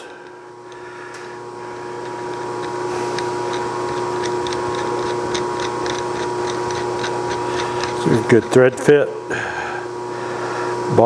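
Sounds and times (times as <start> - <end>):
shop machine hum: 0.0 - 11.0.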